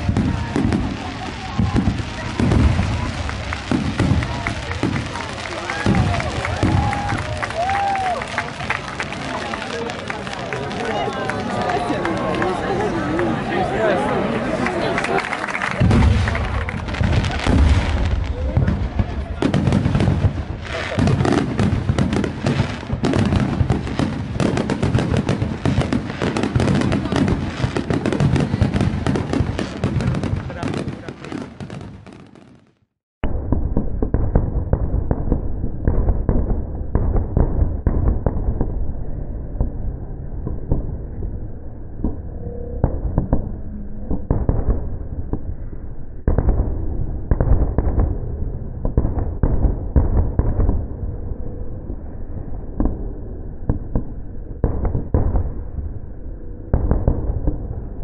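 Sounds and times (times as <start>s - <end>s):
fireworks bursting and crackling: 0.0s - 56.1s, 56.7s - 58.0s.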